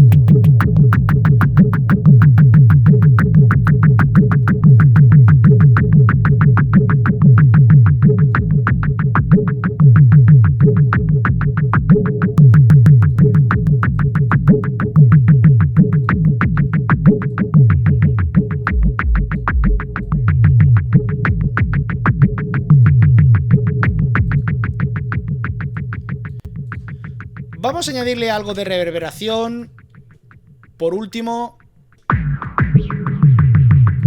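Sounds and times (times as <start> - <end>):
clicky electronic drum loop: 0.0 - 34.0.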